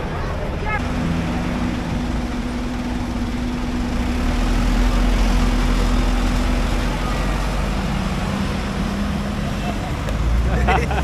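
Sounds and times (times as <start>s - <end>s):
deep engine rumble: 0.0s - 11.0s
engine idling hum: 0.8s - 11.0s.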